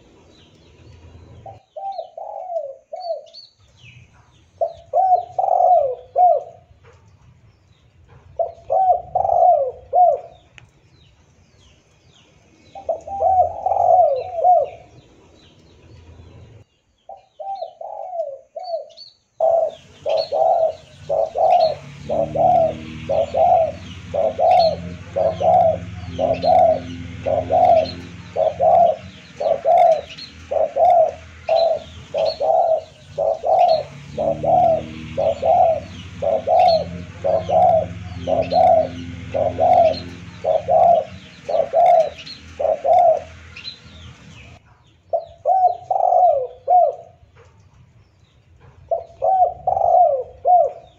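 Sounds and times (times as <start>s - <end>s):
doves cooing: 0.0s - 3.4s, 4.6s - 6.9s, 8.2s - 10.5s, 12.7s - 47.3s, 48.8s - 50.9s
small birds chirping: 0.0s - 50.9s.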